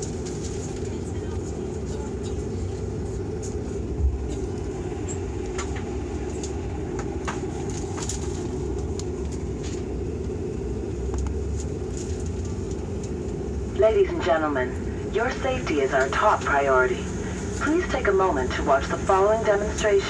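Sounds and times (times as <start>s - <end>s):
turboprop engine drone in cabin: 0.0s - 20.0s.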